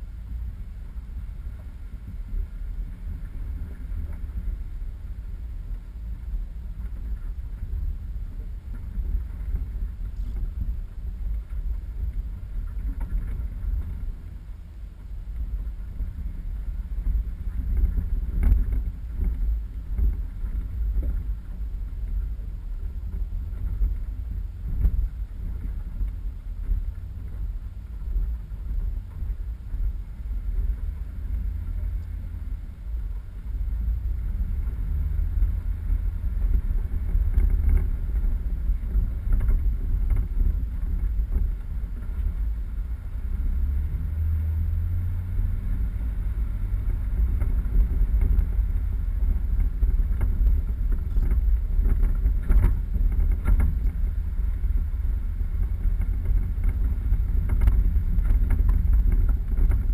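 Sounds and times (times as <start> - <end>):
off-road vehicle rumble: 0.0 - 59.9
wind buffeting microphone: 0.0 - 59.9.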